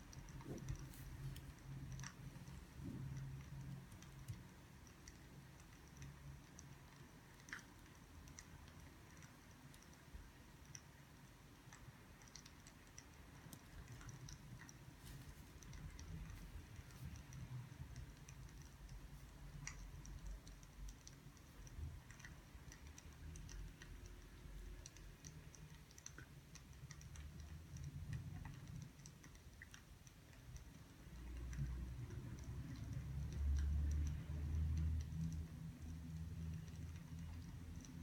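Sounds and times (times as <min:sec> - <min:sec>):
faint small clicks: 0:00.0 - 0:38.0.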